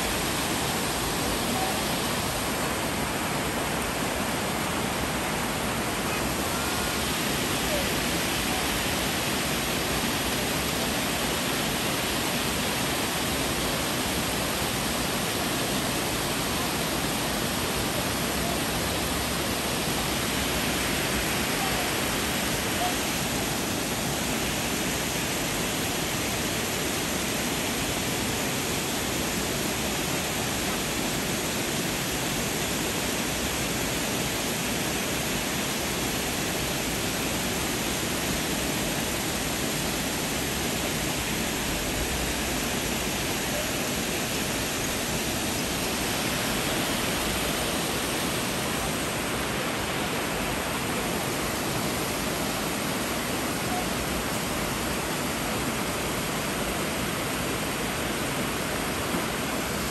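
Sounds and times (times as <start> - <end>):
water rushing over weir: 0.0 - 59.9.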